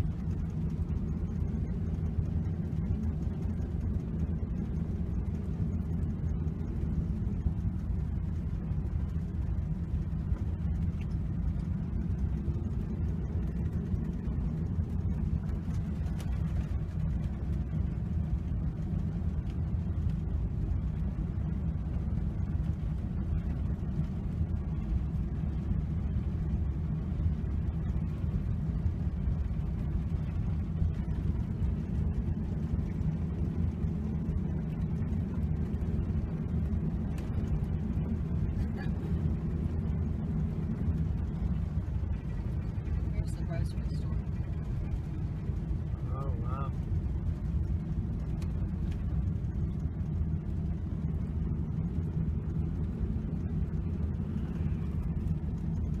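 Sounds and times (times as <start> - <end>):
vehicle engine and tyre rumble: 0.0 - 56.0.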